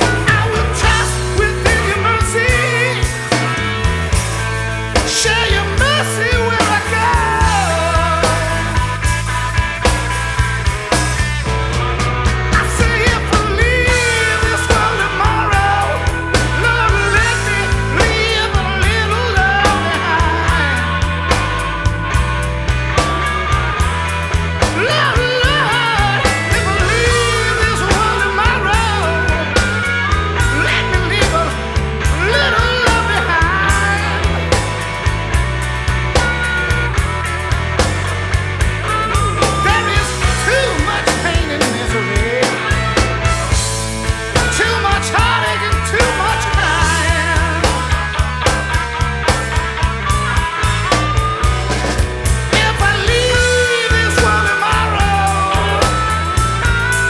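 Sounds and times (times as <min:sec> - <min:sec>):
person singing: 0:00.0 - 0:03.8, 0:05.0 - 0:09.2, 0:12.4 - 0:21.9, 0:24.6 - 0:37.1, 0:38.8 - 0:48.8, 0:50.7 - 0:57.0
rock song with guitar: 0:00.0 - 0:57.0
steady drum beat: 0:00.0 - 0:57.0.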